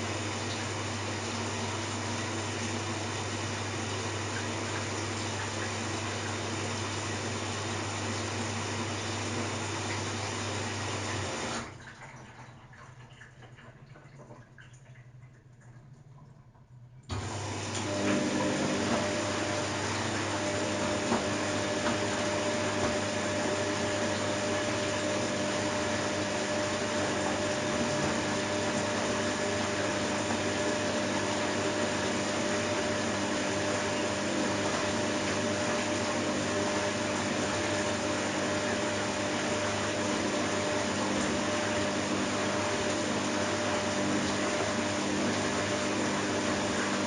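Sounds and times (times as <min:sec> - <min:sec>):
washing machine running: 0:00.0 - 0:47.0.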